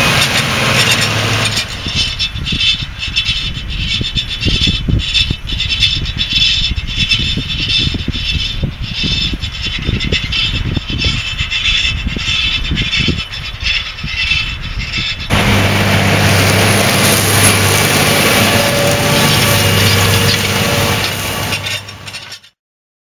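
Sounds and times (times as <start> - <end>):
discs scraping and rattling in soil: 0.0 - 22.5
tractor engine under load: 0.0 - 22.6.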